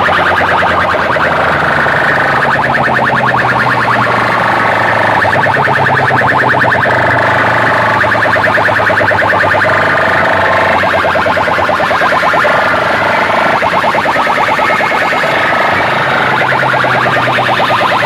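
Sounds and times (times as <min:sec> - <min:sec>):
loud electronic music: 0:00.0 - 0:18.0.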